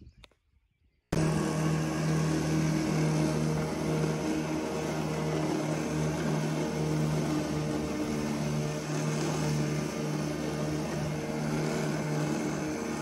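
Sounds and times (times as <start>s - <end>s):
electric lawn mower running: 1.2s - 13.0s.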